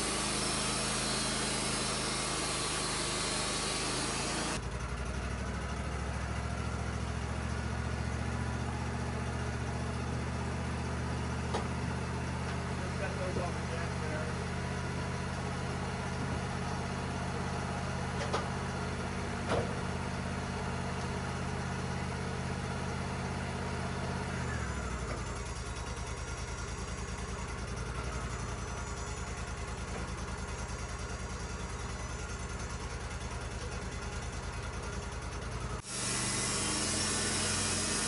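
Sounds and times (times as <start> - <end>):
sawmill engine running: 0.0 - 38.0.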